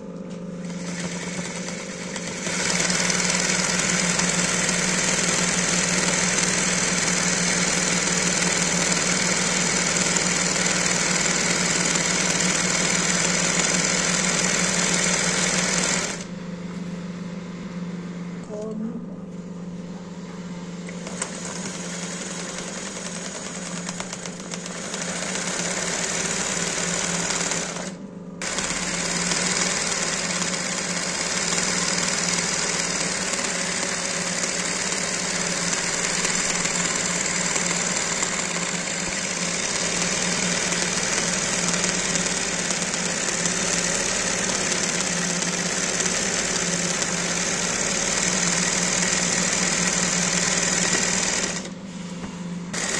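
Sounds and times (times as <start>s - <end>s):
embroidery machine running: 0.0s - 16.4s, 20.7s - 52.0s, 52.6s - 52.9s.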